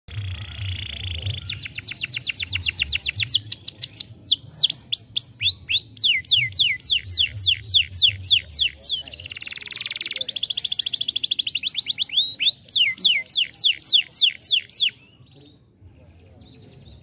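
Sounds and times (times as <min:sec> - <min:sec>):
canary singing: 0:00.1 - 0:17.0.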